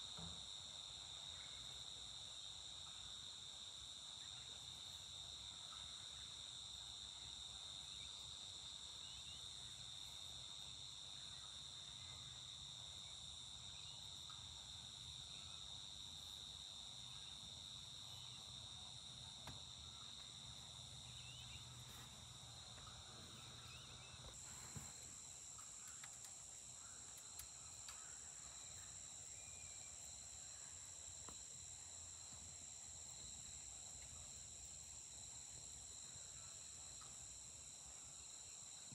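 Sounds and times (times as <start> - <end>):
insects trilling: 0.1 - 38.9.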